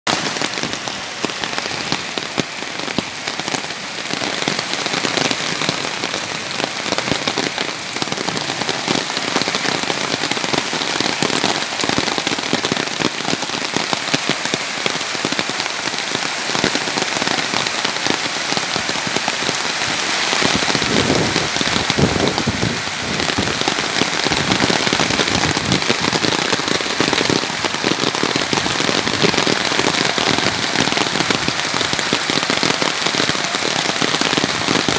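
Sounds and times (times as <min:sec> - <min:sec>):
hail and heavy rain pelting: 0:00.1 - 0:34.9.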